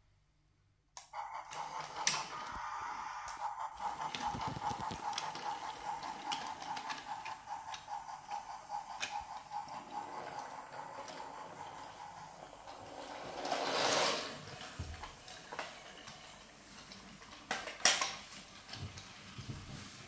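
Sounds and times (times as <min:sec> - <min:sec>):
toy train motor whirring: 0:01.0 - 0:19.3.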